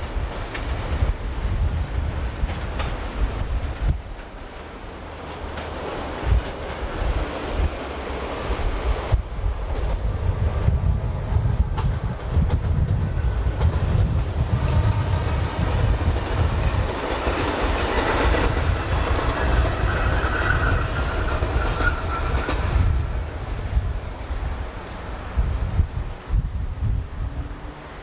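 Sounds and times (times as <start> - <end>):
train wheels clacking on rails: 0.0 - 23.8
heavy train rumble: 0.0 - 28.0.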